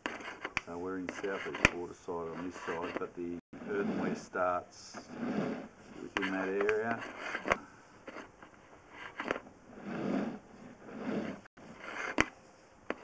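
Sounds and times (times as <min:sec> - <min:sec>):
rod scraping through pipe: 0:00.0 - 0:13.0.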